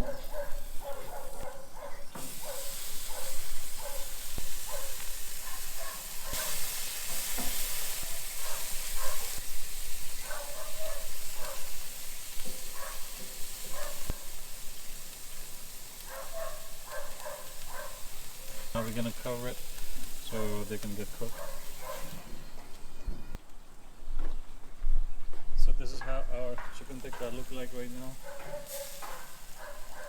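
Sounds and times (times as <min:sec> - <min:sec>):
chicken sizzling on a grill: 0:00.0 - 0:23.3, 0:25.9 - 0:30.0.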